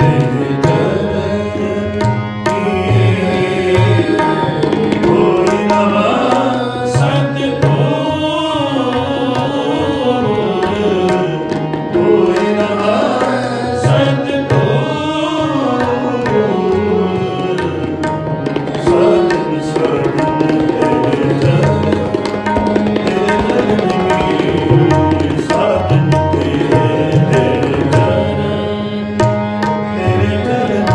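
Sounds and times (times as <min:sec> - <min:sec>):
harmonium tones: 0:00.0 - 0:30.9
person singing melody: 0:00.0 - 0:30.9
tabla rhythm: 0:00.0 - 0:30.9.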